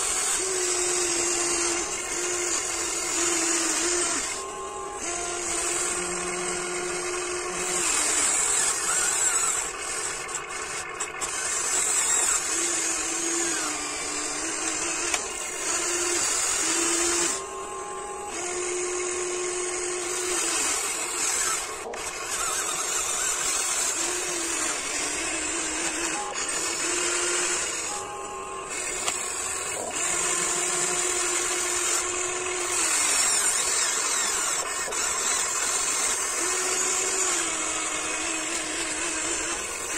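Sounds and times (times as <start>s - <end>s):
toy excavator motors whining: 0.0s - 39.9s.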